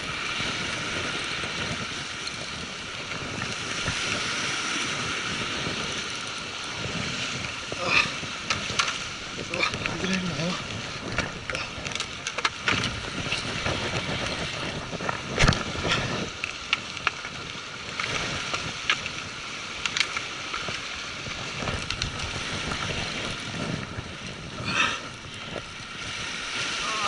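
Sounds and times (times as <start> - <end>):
sea noise: 0.0 - 27.0
wind on microphone: 0.0 - 27.0.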